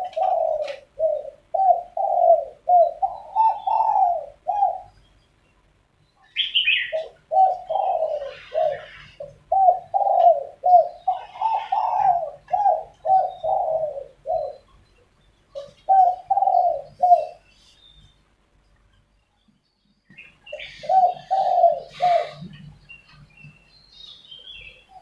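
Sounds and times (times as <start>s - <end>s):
doves cooing: 0.0s - 5.2s, 6.3s - 14.8s, 15.4s - 18.0s, 20.2s - 25.0s
small bird chirping: 2.8s - 10.2s, 10.8s - 25.0s.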